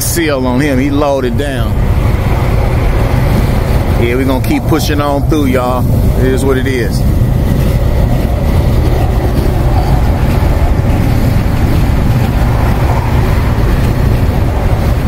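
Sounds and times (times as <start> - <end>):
truck engine and road rumble: 0.0 - 15.0
wind buffeting cab: 0.0 - 15.0.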